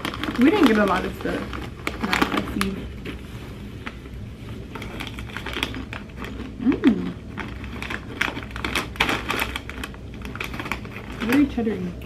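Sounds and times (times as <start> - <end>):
crisp chips crunching: 0.0 - 12.0.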